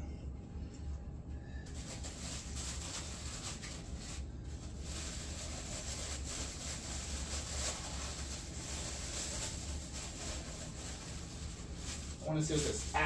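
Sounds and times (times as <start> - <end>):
steady low hum: 0.0 - 13.0
styrofoam and plastic wrap rustling: 1.6 - 13.0.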